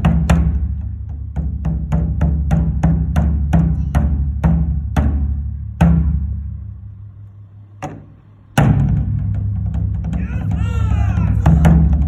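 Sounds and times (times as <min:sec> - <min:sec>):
taiko drums booming: 0:00.0 - 0:06.7, 0:07.8 - 0:12.0.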